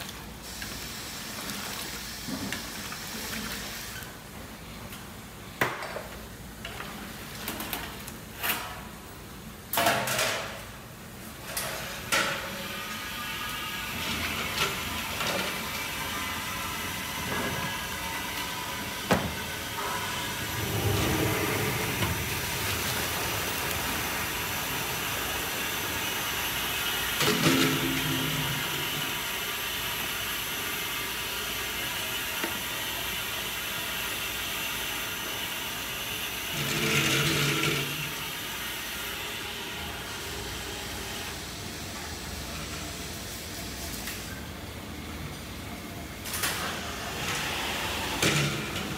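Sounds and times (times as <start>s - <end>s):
machinery hiss and hum: 0.0s - 48.9s.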